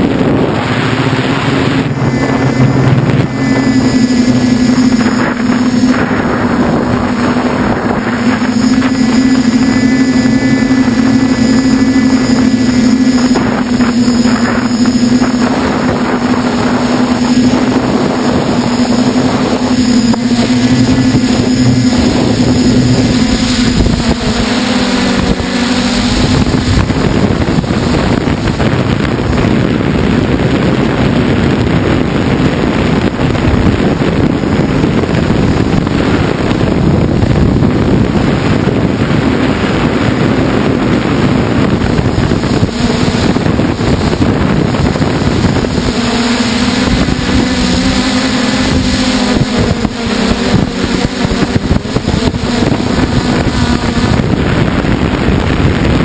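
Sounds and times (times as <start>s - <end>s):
drone motor hum: 0.0s - 56.0s
wind buffeting microphone: 0.0s - 56.0s.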